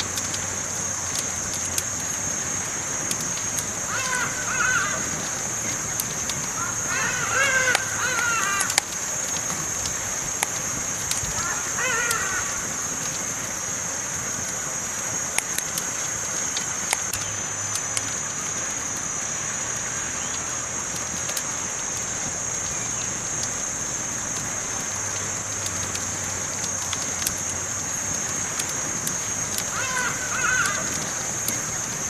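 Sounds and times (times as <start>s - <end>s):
campfire crackling: 0.0s - 32.0s
steady fire hiss: 0.0s - 32.0s.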